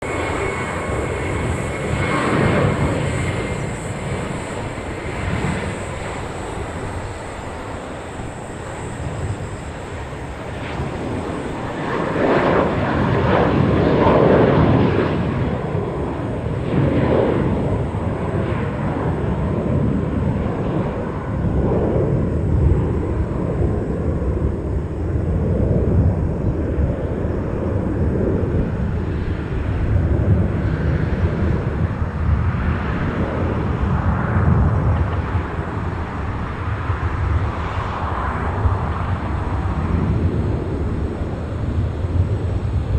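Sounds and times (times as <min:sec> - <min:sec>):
jet airliner engines passing: 0:00.0 - 0:42.9.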